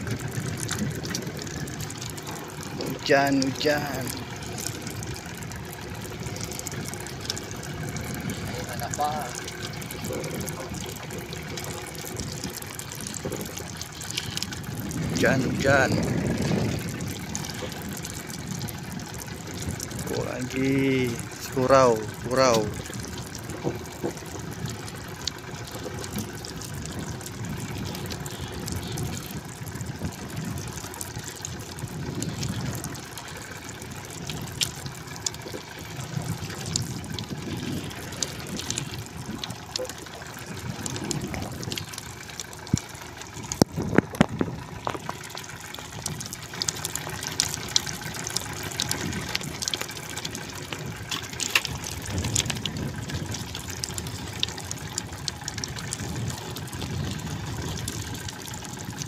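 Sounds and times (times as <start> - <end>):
water slapping boat hull: 0.0 - 59.0.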